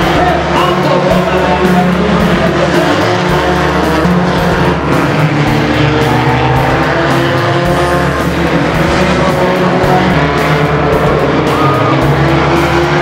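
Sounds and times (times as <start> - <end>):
background music: 0.0 - 13.0
race car engines: 0.0 - 13.0.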